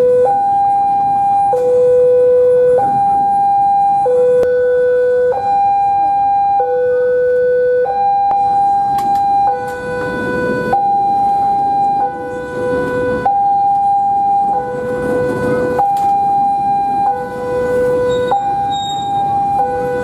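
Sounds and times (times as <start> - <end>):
freight train rolling rumble: 0.0 - 20.0
level crossing two-tone alarm: 0.0 - 20.0.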